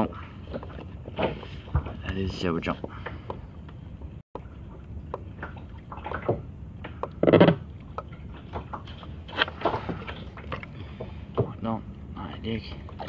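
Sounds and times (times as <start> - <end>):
water lapping against a kayak: 0.0 - 13.0.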